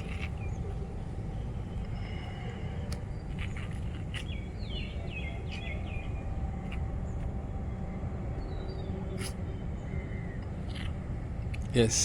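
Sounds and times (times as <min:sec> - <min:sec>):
small bird chirping: 0:00.0 - 0:07.3, 0:08.4 - 0:11.7
low outdoor rumble: 0:00.0 - 0:12.0.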